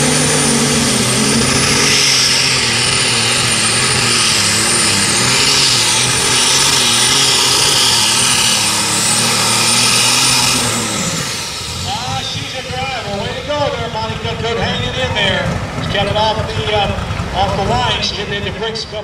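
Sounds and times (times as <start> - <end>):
tractor engine at high revs: 0.0 - 19.0.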